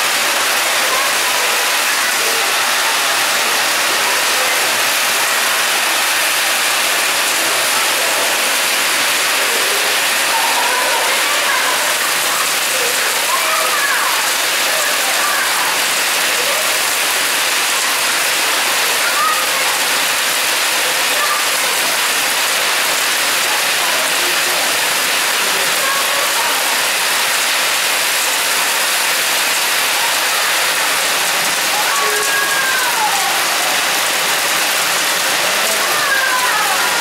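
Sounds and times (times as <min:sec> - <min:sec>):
hail and rain pelting: 0:00.0 - 0:37.0.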